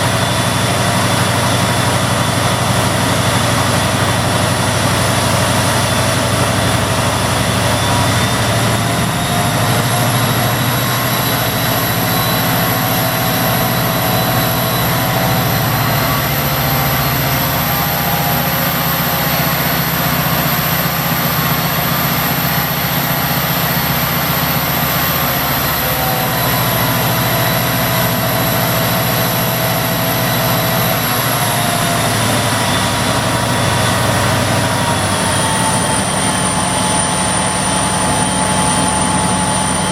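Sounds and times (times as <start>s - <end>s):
diesel locomotive engine running: 0.0s - 39.9s
high turbocharger whine: 0.0s - 39.9s.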